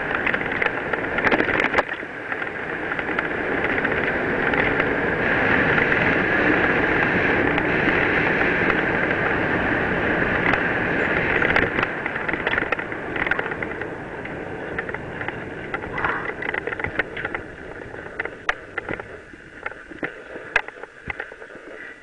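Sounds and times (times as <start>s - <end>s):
bike rattling over bumps: 0.0s - 22.0s
wind and tyre noise: 0.0s - 22.0s.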